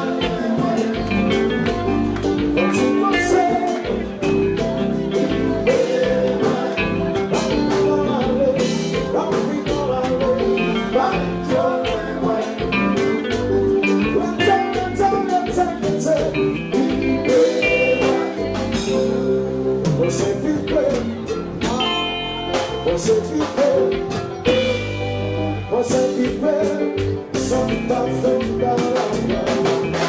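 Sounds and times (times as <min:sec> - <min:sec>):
live band with guitar: 0:00.0 - 0:30.0
man singing: 0:00.0 - 0:30.0
steady drum beat: 0:00.0 - 0:30.0.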